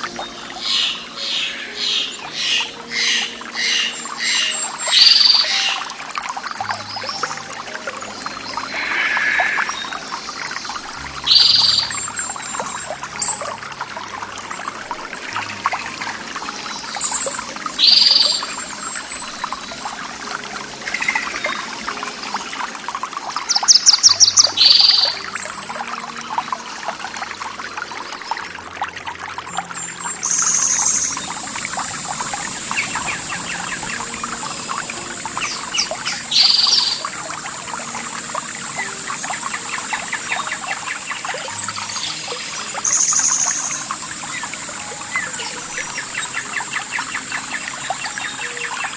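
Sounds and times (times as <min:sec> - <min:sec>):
bird trill: 0:00.0 - 0:22.6, 0:23.4 - 0:26.9, 0:29.5 - 0:48.9
birds calling: 0:00.0 - 0:48.9
stream water trickling: 0:00.0 - 0:48.9.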